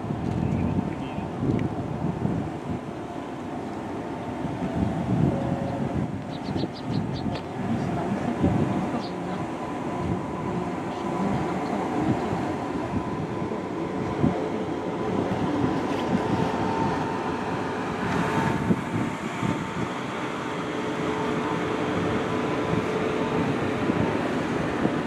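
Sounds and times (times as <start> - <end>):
train electrical whine: 0.0 - 25.0.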